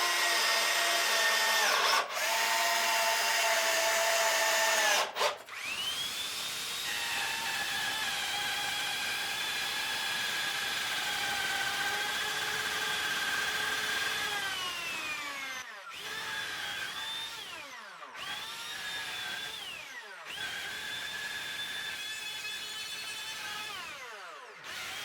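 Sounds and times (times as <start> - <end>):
electric drill whining: 0.0 - 25.0.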